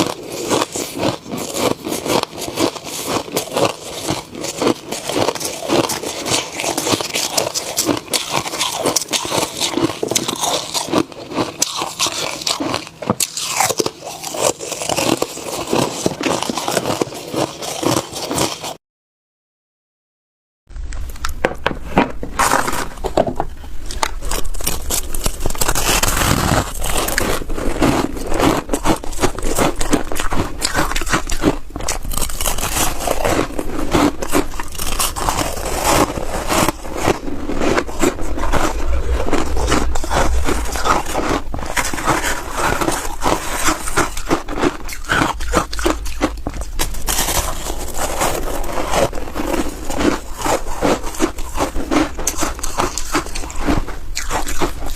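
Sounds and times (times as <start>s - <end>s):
ice crunching while chewed: 0.0s - 18.8s, 22.0s - 54.9s.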